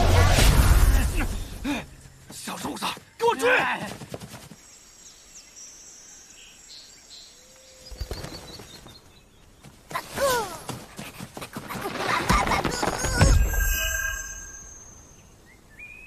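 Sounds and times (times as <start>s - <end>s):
insects chirping: 0.6s - 16.0s
birds chirping: 0.9s - 16.0s.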